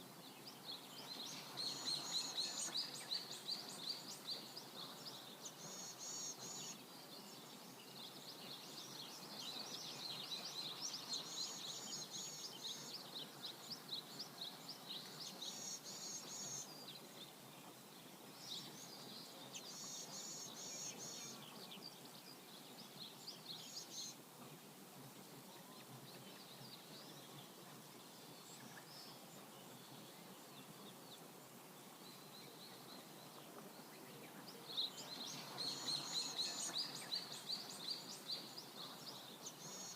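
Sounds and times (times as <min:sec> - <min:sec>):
river flowing: 0:00.0 - 0:39.9
small birds chirping and trilling: 0:00.1 - 0:24.2, 0:25.4 - 0:39.9.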